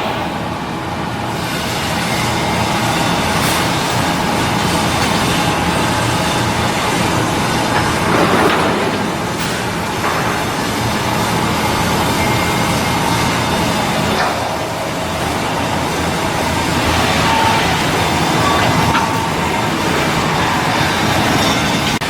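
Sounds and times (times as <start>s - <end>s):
heavy machinery running: 0.0s - 22.0s.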